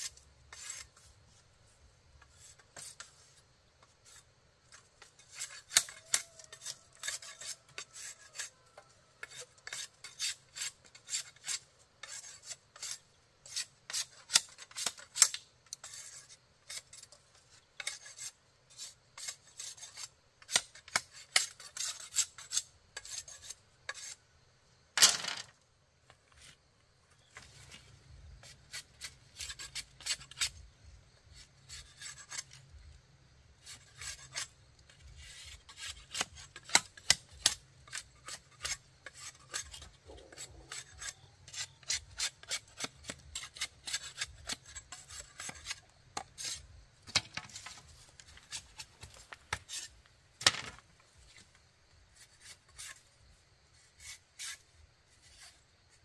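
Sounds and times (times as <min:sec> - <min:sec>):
blade scraping bamboo: 0:00.0 - 0:24.3, 0:26.1 - 0:56.0.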